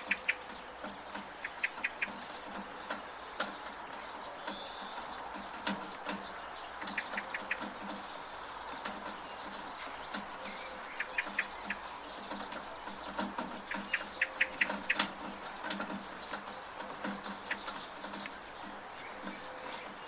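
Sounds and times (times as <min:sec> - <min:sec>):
drips from a gutter: 0:00.0 - 0:20.0
small birds chirping: 0:00.0 - 0:20.0
steady rain: 0:00.0 - 0:20.0.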